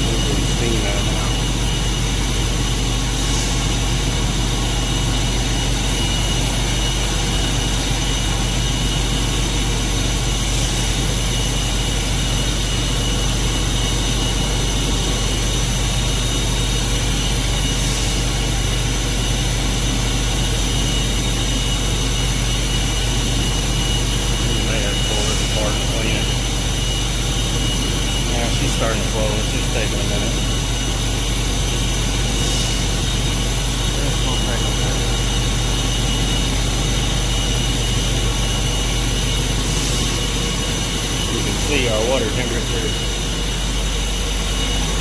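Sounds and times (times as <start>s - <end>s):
machinery drone with hiss: 0.0s - 45.0s
thin high whining tones: 0.0s - 45.0s.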